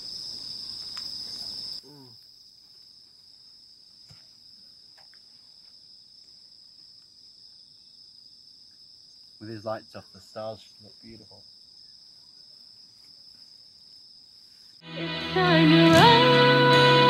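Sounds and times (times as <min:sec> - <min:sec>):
crickets trilling: 0:00.0 - 0:14.9.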